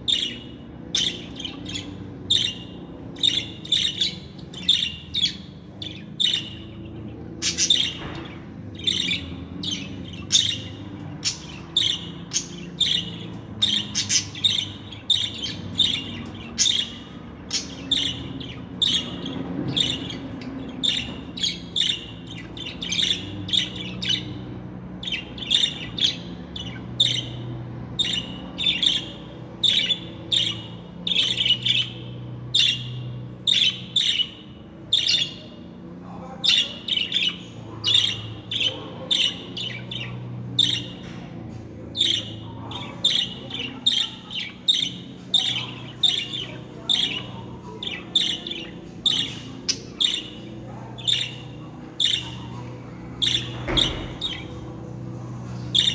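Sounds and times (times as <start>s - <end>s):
budgerigars chirping and squawking: 0.0s - 55.9s
faint low hum: 0.0s - 55.9s.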